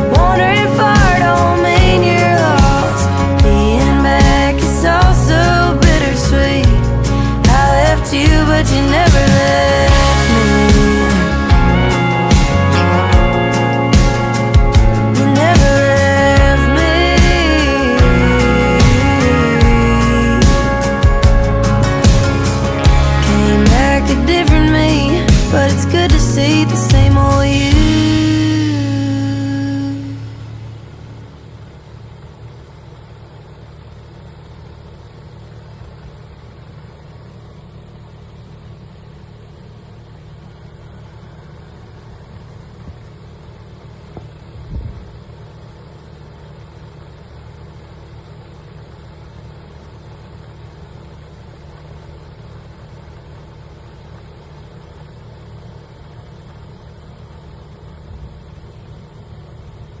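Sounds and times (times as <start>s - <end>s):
vehicle engine idling: 0.0s - 60.0s.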